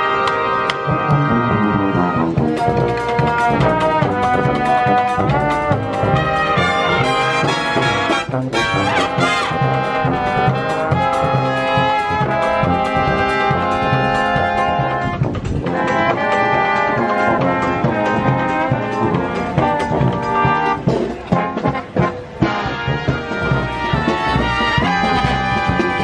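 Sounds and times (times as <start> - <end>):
pulsing sousaphone bass: 0.0 - 26.0
trumpets and trombones: 0.0 - 26.0.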